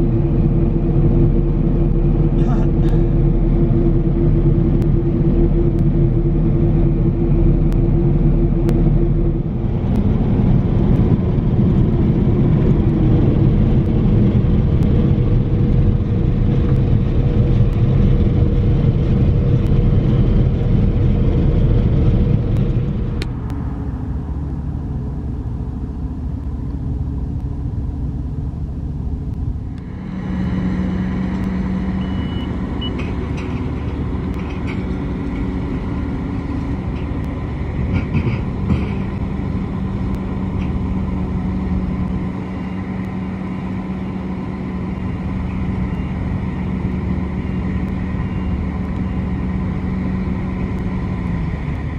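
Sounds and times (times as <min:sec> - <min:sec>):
combine harvester engines rumbling: 0:00.0 - 0:51.9
low engine hum: 0:00.0 - 0:51.9.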